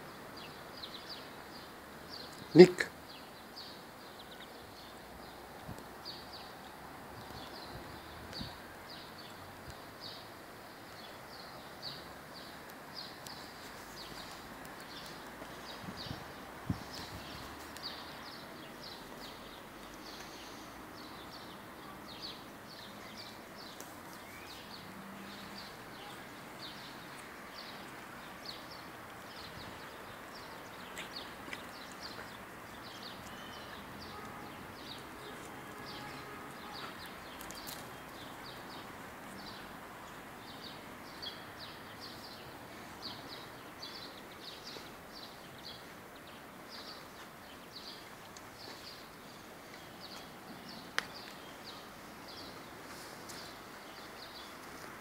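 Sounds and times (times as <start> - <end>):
outdoor background hiss: 0.0 - 55.0
small birds chirping: 0.0 - 55.0.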